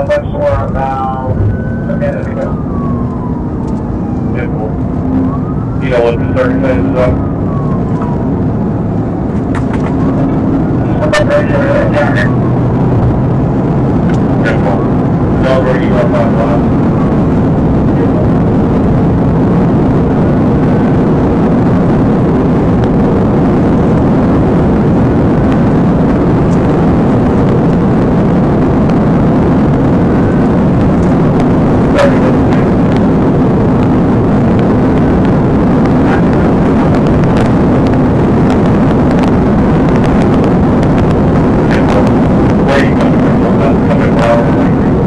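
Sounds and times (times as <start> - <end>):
car engine drone: 0.0 - 45.0
road tyre and wind noise: 0.0 - 45.0.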